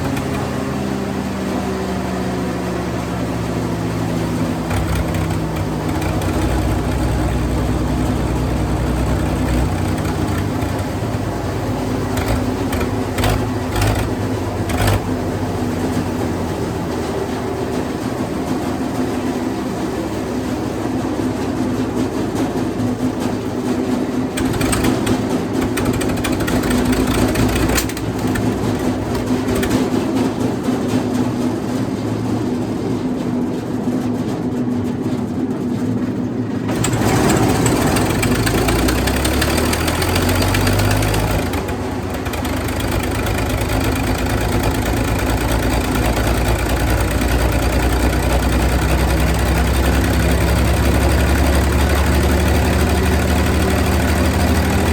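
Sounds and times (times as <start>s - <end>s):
wood chipper engine running: 0.0s - 54.9s.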